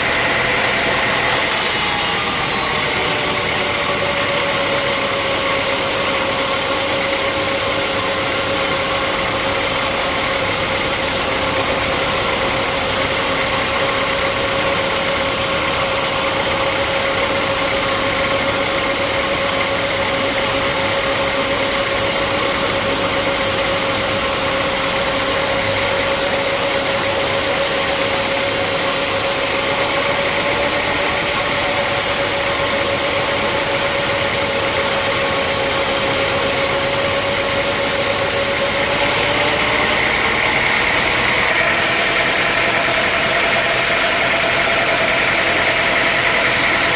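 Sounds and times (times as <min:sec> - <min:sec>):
sawmill machinery humming: 0:00.0 - 0:46.9.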